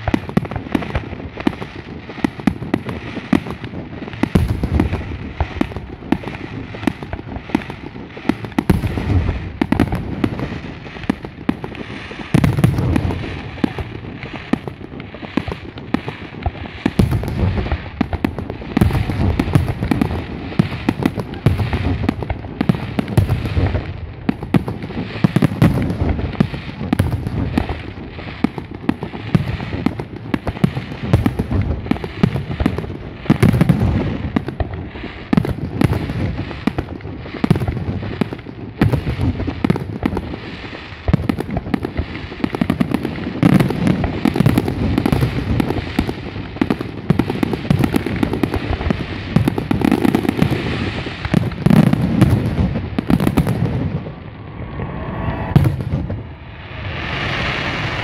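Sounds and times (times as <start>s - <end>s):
fireworks bangs and booms: 0.0s - 58.0s.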